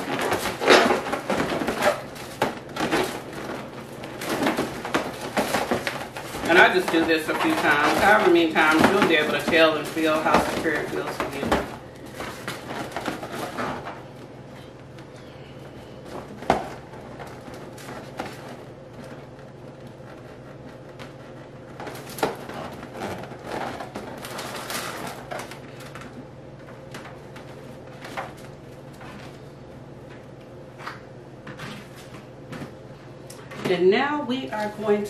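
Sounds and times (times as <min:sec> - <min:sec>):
balloons rustling: 0:00.0 - 0:30.3, 0:31.4 - 0:35.0
faint steady hum: 0:00.0 - 0:35.0.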